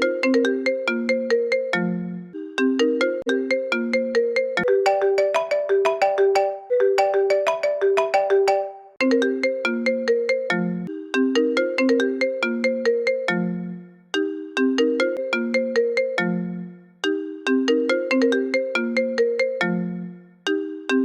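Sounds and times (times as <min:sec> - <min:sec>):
phone ringtone melody: 0:00.0 - 0:21.0.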